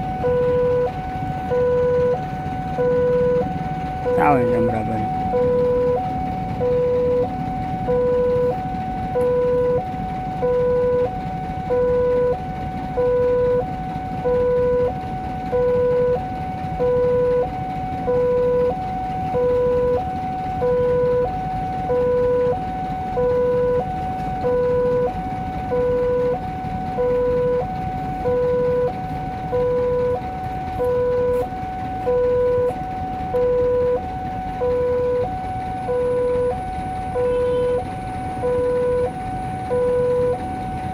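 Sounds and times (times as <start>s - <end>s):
level crossing two-tone alarm: 0.0s - 40.9s
steady low rumble: 0.0s - 40.9s.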